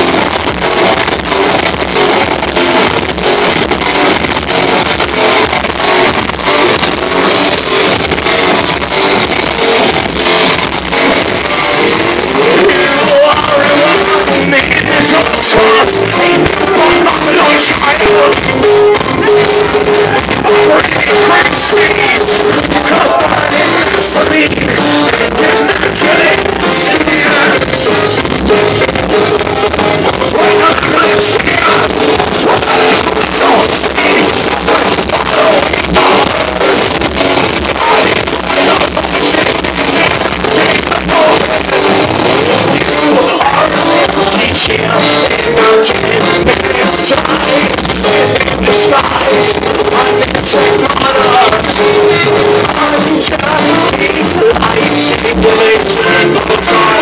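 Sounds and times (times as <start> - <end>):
drums: 0.0 - 57.0
electric guitar: 0.0 - 57.0
person singing: 0.0 - 57.0.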